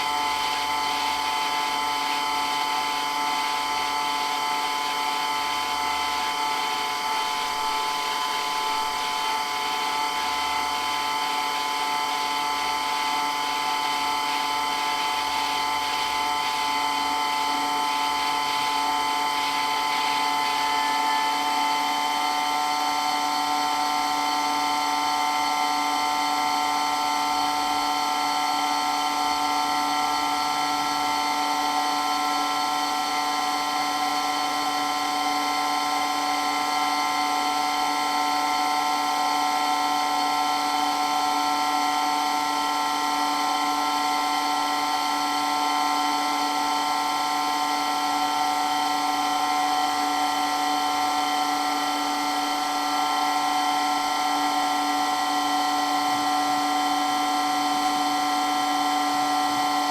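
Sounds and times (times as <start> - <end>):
water pump whining hum: 0.0 - 59.9.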